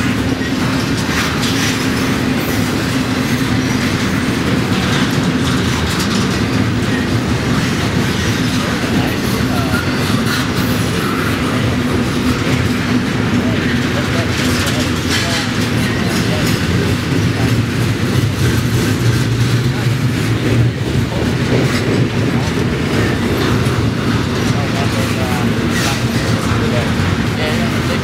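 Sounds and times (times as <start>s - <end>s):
train cars rumbling on rails: 0.0s - 28.0s.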